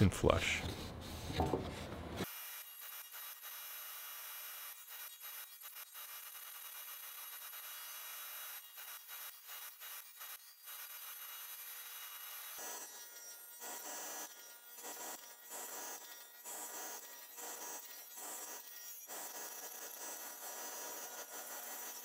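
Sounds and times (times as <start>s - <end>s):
table saw cutting wood: 0.5s - 22.0s.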